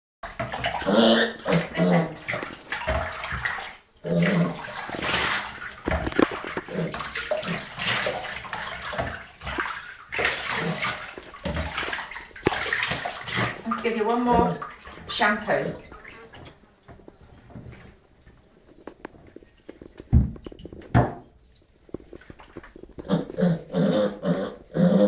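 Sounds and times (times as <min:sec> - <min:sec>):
bathwater splashing and sloshing: 0:00.2 - 0:25.0.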